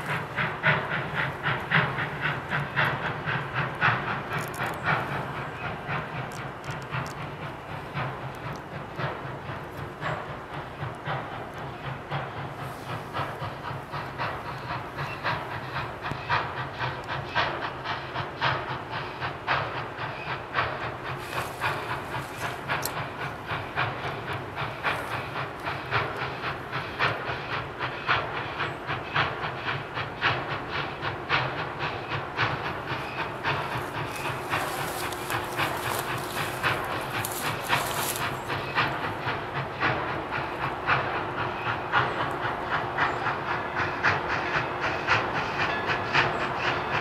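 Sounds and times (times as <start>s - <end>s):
steam hiss: 0.0s - 47.0s
steam locomotive clatter: 0.0s - 47.0s.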